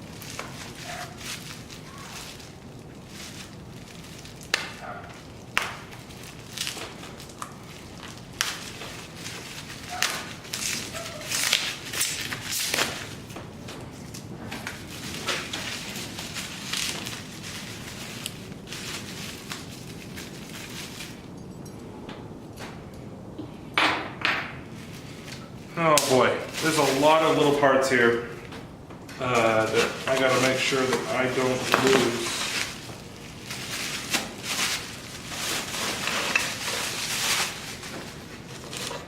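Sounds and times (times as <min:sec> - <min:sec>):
packing material rustling: 0:00.0 - 0:21.5, 0:24.7 - 0:28.6, 0:29.2 - 0:39.0.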